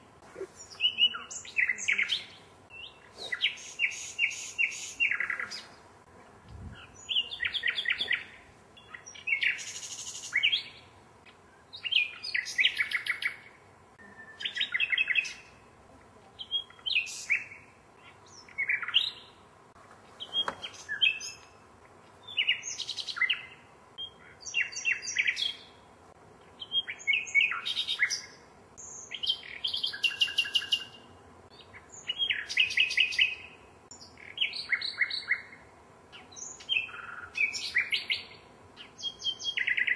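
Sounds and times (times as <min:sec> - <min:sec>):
nightingale singing: 0:00.0 - 0:05.8, 0:06.7 - 0:15.7, 0:16.4 - 0:19.4, 0:20.1 - 0:25.8, 0:26.4 - 0:39.9.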